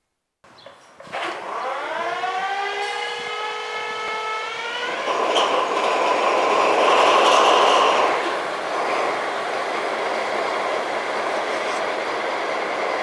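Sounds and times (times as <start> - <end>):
diesel locomotive engine starting: 1.0 - 13.0
rising engine whine: 1.2 - 12.1.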